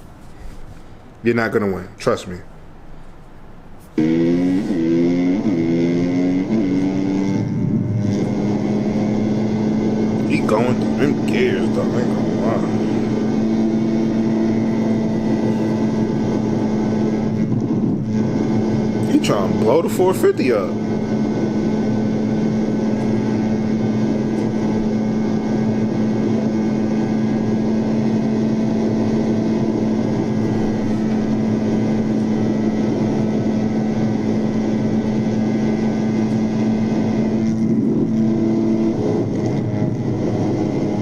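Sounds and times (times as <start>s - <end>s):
dirt bike engine at high revs: 4.0s - 41.0s.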